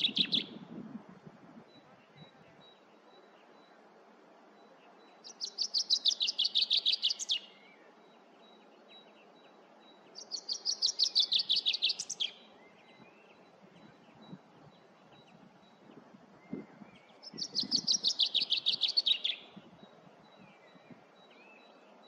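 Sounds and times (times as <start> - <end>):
chaffinch singing: 0.0 - 0.8, 4.5 - 22.0.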